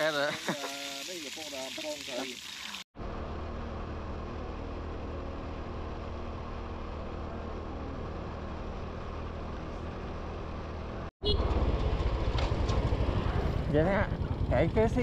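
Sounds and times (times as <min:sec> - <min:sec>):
vehicle engine droning: 0:03.0 - 0:15.0.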